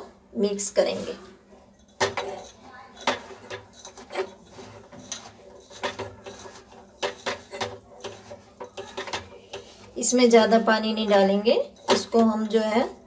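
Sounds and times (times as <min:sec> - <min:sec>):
hands mixing peanuts and flour: 0:00.7 - 0:13.0.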